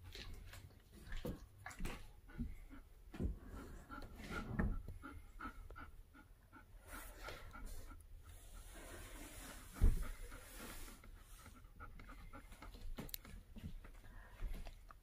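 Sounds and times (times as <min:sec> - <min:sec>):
dog panting: 0:01.1 - 0:14.8.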